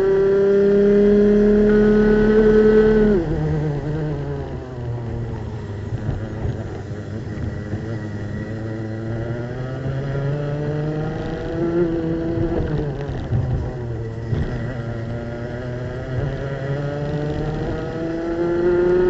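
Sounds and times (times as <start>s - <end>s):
kart engine braking and accelerating: 0.0s - 19.0s
other kart engines: 0.0s - 19.0s.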